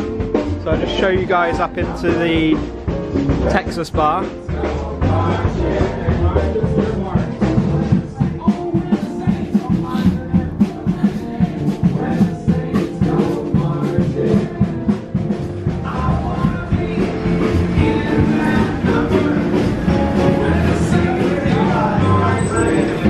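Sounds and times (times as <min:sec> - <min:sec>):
jazz band playing: 0:00.0 - 0:23.0.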